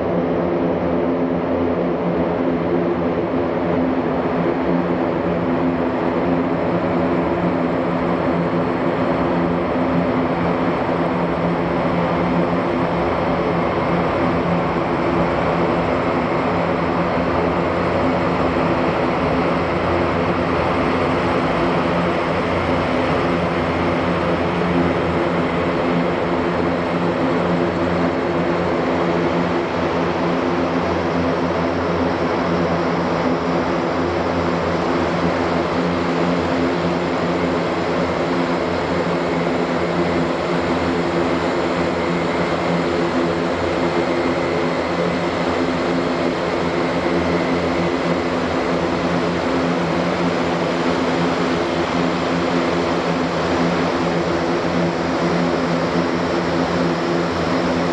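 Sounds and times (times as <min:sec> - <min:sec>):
turboprop engines droning: 0:00.0 - 0:57.9.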